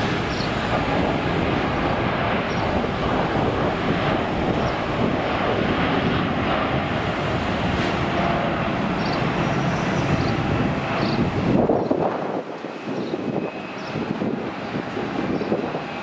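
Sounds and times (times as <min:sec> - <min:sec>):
jet engines at take-off thrust: 0:00.0 - 0:16.0.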